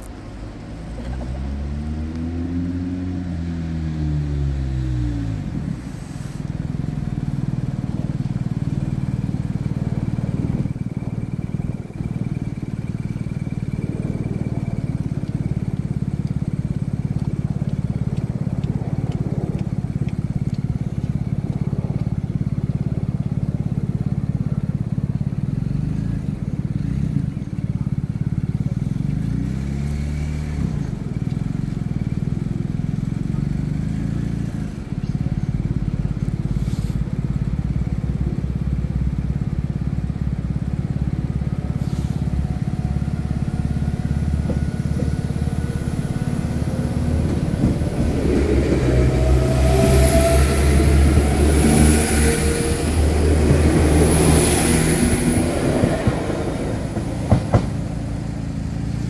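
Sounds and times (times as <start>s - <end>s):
engine revving: 0.0s - 40.2s, 41.0s - 59.0s
diesel train engine idling: 5.3s - 29.7s, 30.6s - 59.0s.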